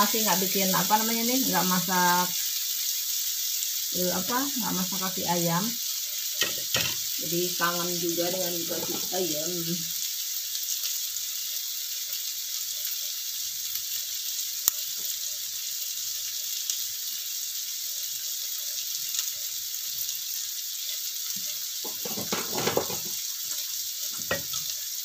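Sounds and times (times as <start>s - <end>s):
paste sizzling in oil: 0.0s - 25.0s.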